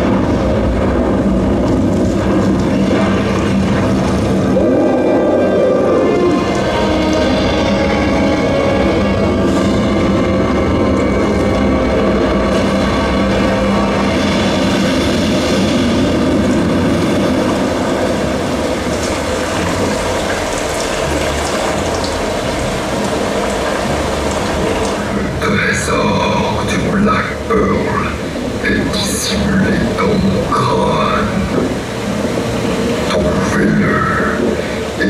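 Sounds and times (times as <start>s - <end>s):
rumbling drone soundtrack over loudspeakers: 0.0s - 35.0s.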